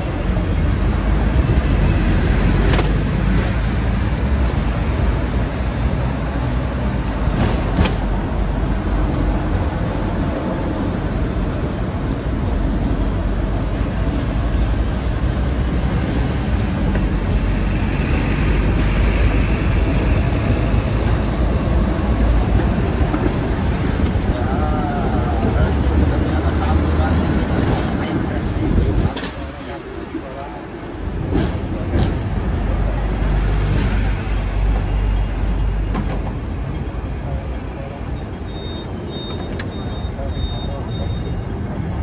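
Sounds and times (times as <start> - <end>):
road traffic: 0.0 - 42.0
tram running on tracks: 0.0 - 42.0.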